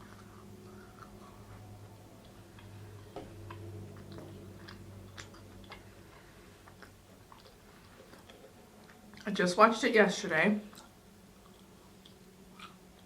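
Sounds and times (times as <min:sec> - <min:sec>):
wet chewing mouth clicks: 0:00.0 - 0:09.3, 0:10.7 - 0:13.0
faint electrical hum: 0:00.0 - 0:13.0.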